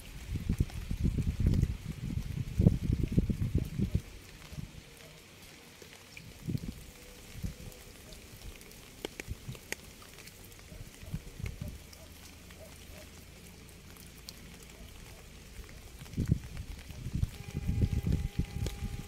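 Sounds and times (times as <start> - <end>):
rain patter: 0.0 - 19.0
raindrops ticking close by: 0.0 - 19.0.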